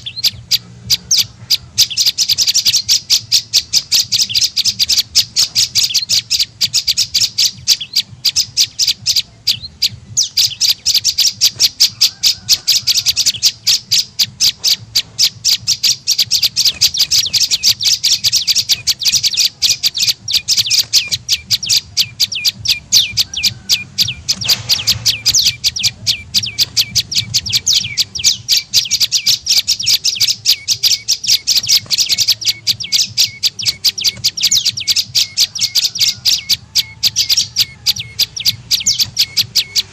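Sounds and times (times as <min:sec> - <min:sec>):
sharp high bird chirps: 0:00.0 - 0:39.9.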